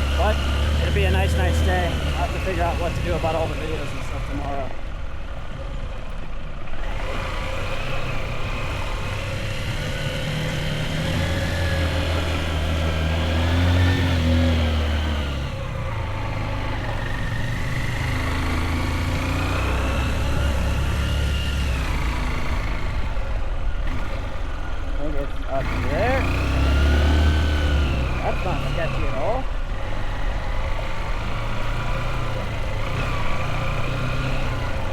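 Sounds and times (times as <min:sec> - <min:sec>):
motorbike engine revving: 0:00.0 - 0:34.9.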